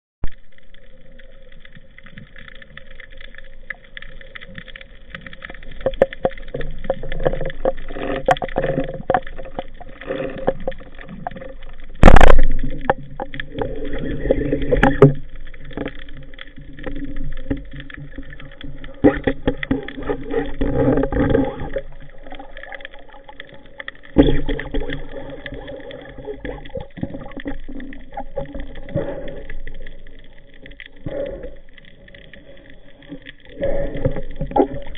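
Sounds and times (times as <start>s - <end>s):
underwater water noise: 0.2s - 34.9s.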